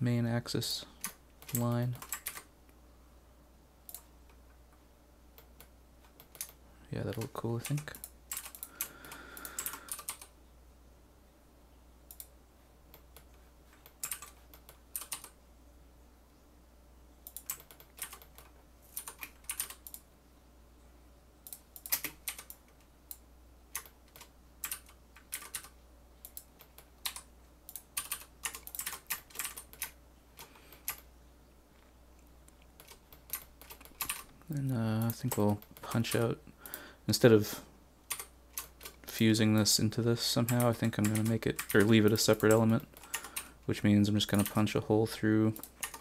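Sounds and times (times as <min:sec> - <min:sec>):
faint fan hum: 0:00.0 - 0:46.0.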